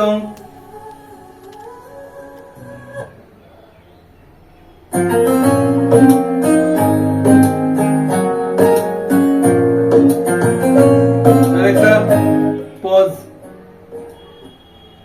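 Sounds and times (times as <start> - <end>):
song through smart speaker: 0.0 - 3.4, 4.9 - 14.7.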